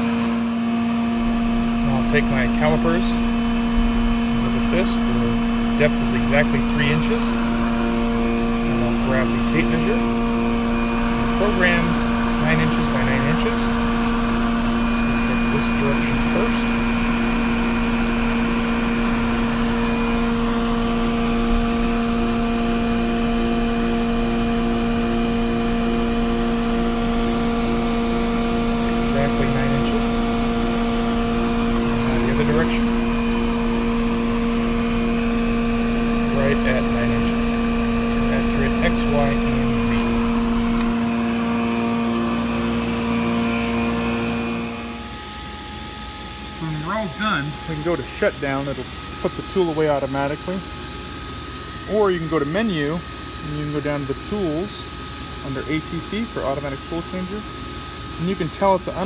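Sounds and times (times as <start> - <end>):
cnc router spindle humming: 0.0 - 59.0
quiet machine hum: 0.0 - 59.0
vacuum system mechanical drone: 0.0 - 59.0.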